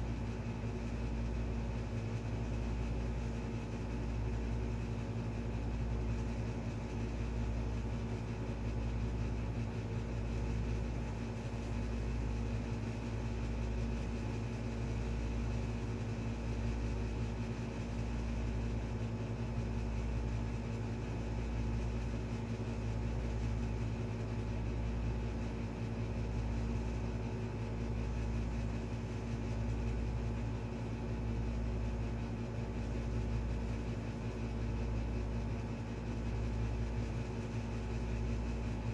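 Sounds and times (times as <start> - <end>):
low throbbing mechanical hum: 0.0 - 38.9.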